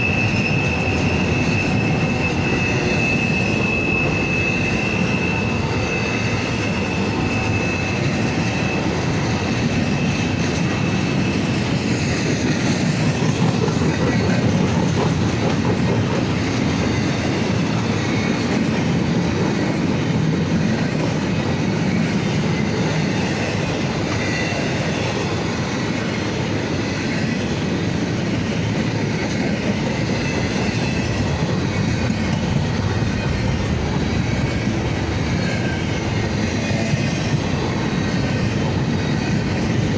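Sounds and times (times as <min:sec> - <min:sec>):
freight train cars rolling: 0:00.0 - 0:39.9
high wheel squeal: 0:00.0 - 0:39.9
wheels clacking over track: 0:00.0 - 0:39.9.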